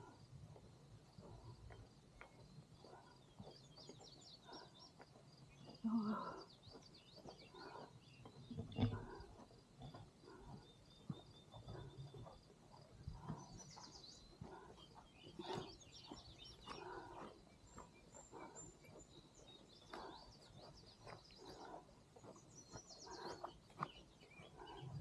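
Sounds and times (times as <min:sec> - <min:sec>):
songbird trills: 0:02.2 - 0:09.4, 0:10.3 - 0:25.0.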